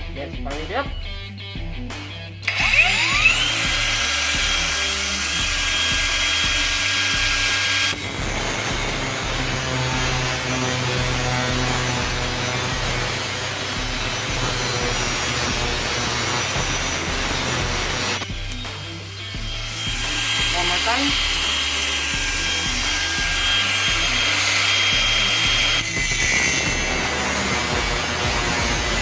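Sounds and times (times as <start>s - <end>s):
angle grinder whining: 2.4s - 29.0s
grinder disc cutting steel: 2.4s - 29.0s.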